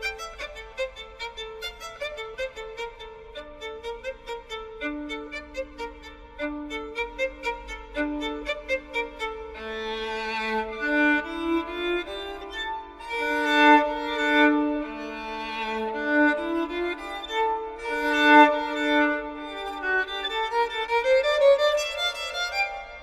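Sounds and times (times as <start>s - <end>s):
slow bowed violin music: 0.0s - 23.0s.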